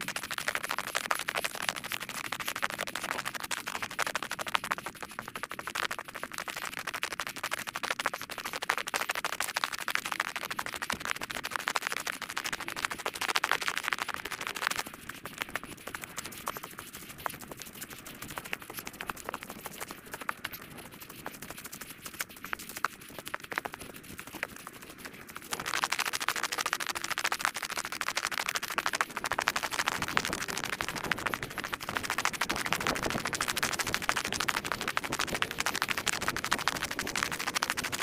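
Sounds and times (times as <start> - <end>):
dense scratchy crackle of clicks: 0.0 - 38.0.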